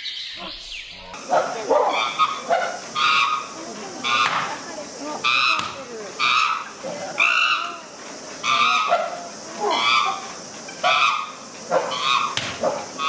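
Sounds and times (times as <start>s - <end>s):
animal high-pitched calls: 1.2s - 13.0s.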